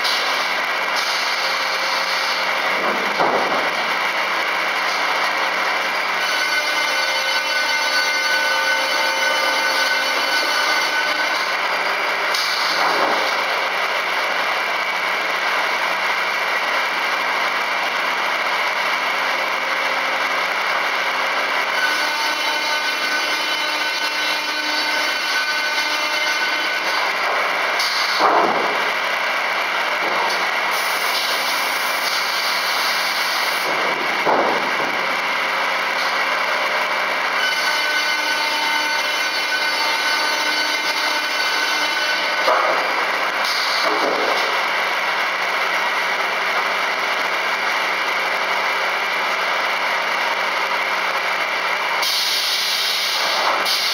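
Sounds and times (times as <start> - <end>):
sawmill whining: 0.0 - 53.9.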